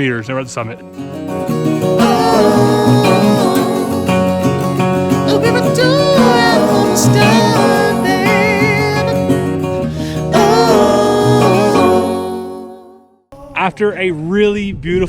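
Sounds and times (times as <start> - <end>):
acoustic guitar song: 0.0 - 13.0
person singing: 1.4 - 14.0.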